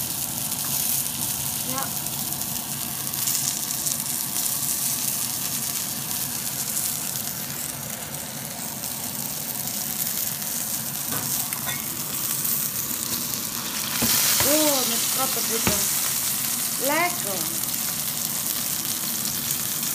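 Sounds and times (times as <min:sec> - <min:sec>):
steak sizzling in pan: 0:00.0 - 0:19.9.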